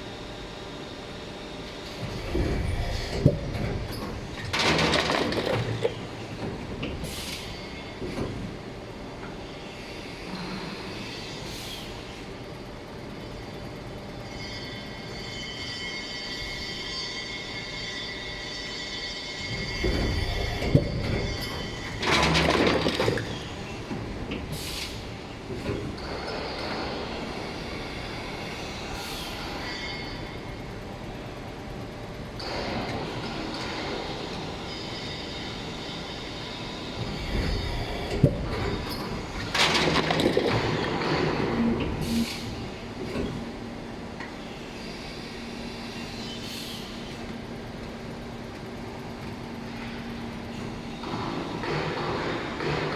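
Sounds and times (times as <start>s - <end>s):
machine mechanical running noise: 0.0s - 52.9s.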